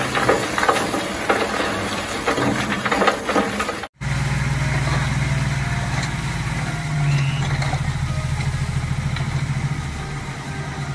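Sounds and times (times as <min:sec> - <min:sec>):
diesel truck engine running: 0:00.0 - 0:10.9
soil being dumped: 0:00.0 - 0:10.9.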